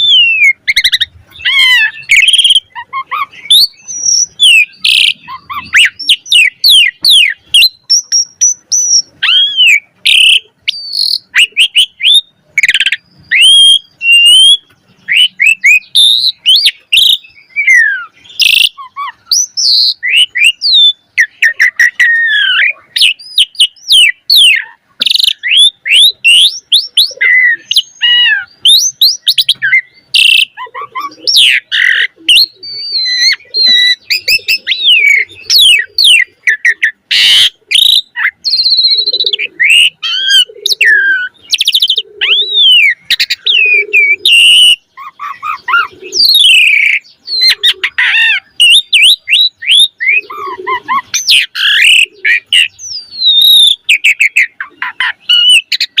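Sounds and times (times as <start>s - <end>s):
starling singing: 0.0s - 56.0s.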